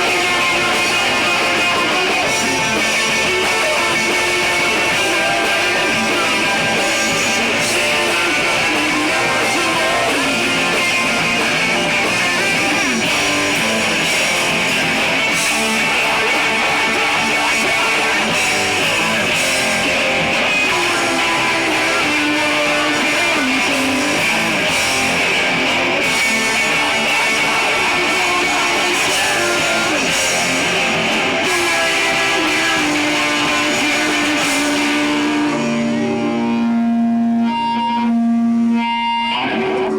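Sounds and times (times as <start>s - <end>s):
distorted electric guitars: 0.0s - 39.9s
rock band playing: 0.0s - 39.9s.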